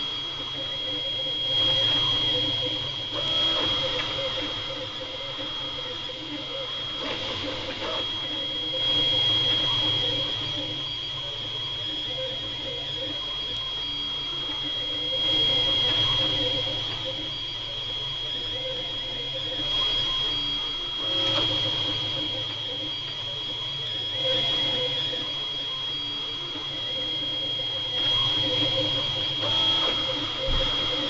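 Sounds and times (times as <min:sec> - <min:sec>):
steady high-pitched tone: 0:00.0 - 0:31.0
stepper motors whining: 0:00.0 - 0:31.0.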